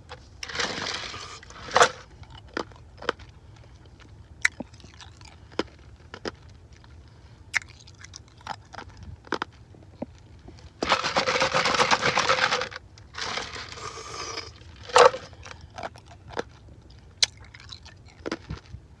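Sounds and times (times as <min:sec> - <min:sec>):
ice crunching between teeth: 0:00.4 - 0:18.8.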